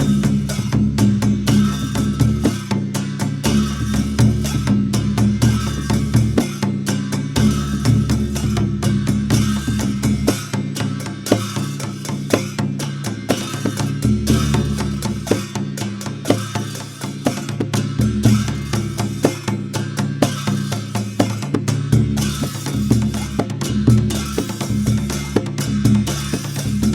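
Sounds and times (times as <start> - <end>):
drum played in fast rhythm: 0.0 - 26.9.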